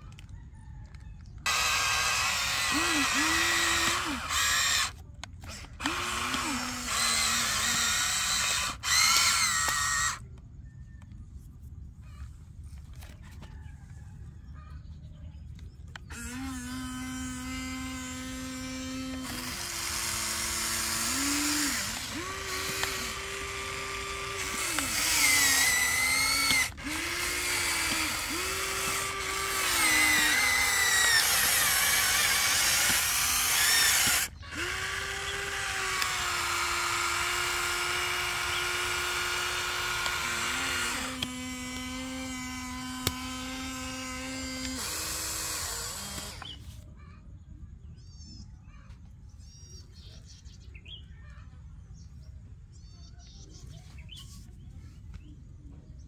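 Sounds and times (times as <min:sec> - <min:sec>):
toy excavator motors whining: 0:00.0 - 0:14.3, 0:15.4 - 0:47.2.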